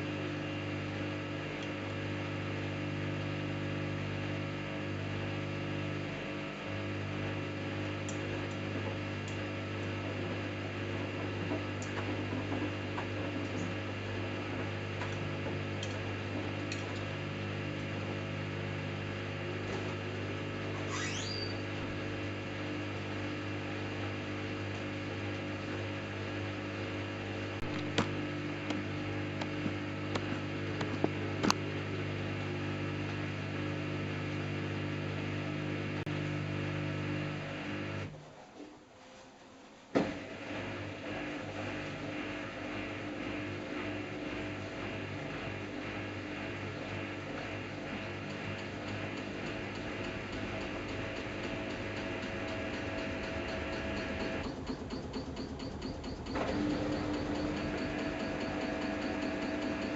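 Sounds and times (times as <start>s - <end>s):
washing machine motor hum: 0.0s - 38.4s, 40.0s - 59.9s.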